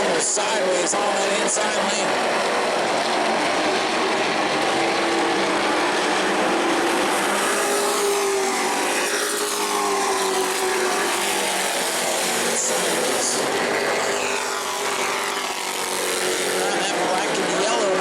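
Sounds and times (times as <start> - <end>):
racing truck engines passing: 0.0 - 18.0.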